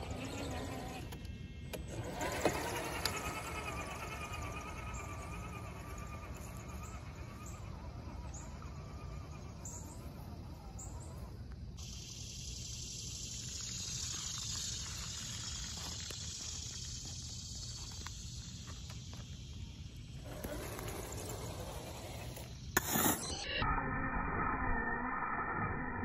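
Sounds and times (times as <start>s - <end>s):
insect chorus hiss: 2.3s - 23.5s
short high insect chirps: 2.6s - 26.0s.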